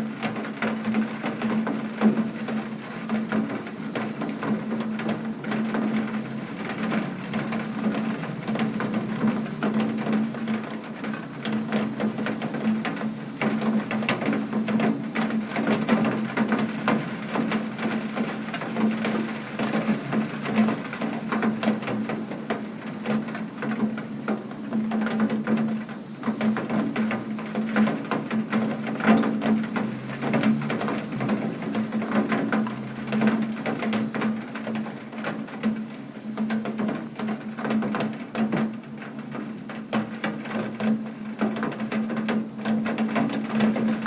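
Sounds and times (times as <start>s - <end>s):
rain drops ticking on a surface: 0.0s - 44.0s.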